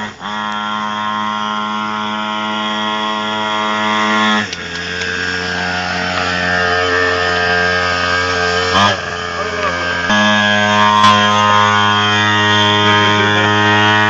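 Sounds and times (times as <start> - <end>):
small engine at high revs: 0.0 - 14.0.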